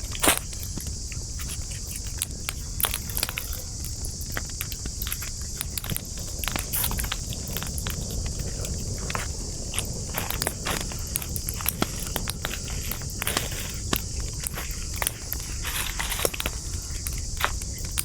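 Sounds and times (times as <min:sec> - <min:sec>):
campfire crackling and popping: 0:00.0 - 0:18.0
high-pitched hiss of fire: 0:00.0 - 0:18.0
low rumble of burning: 0:00.0 - 0:18.0.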